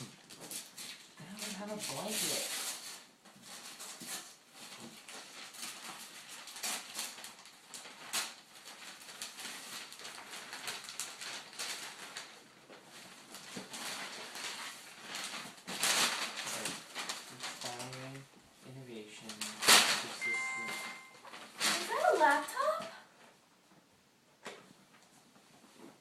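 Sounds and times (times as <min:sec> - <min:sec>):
wrapping paper crinkling: 0:00.0 - 0:18.3, 0:19.2 - 0:22.8.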